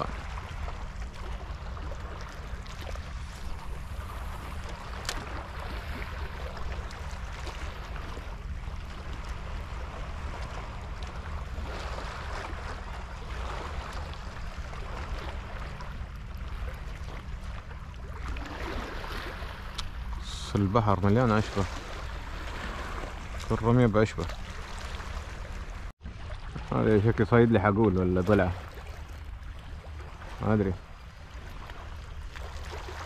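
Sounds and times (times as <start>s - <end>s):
low rumble and hum: 0.0s - 33.0s
wind: 0.0s - 33.0s.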